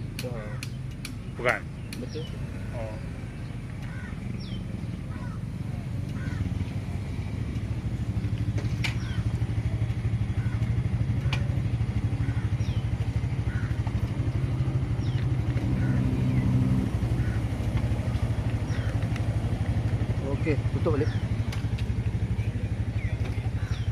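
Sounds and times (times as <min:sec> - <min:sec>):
small motorcycle engine idling: 0:00.1 - 0:23.9.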